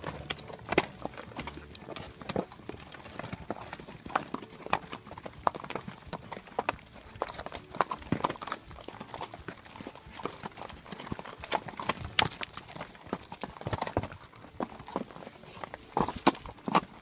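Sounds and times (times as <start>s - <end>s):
hooves clopping on rocky trail: 0.0s - 17.0s.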